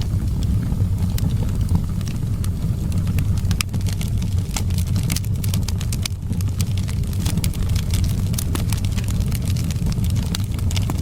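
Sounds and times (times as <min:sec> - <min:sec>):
low wind rumble: 0:00.0 - 0:11.0
wood fire crackling and popping: 0:00.0 - 0:11.0.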